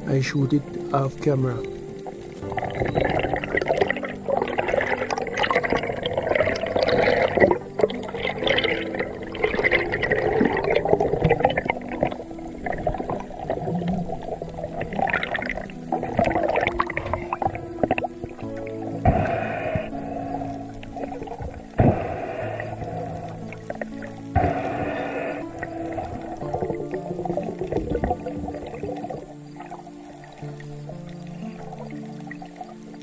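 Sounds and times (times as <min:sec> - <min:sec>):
water rushing and gurgling: 0:00.0 - 0:33.0.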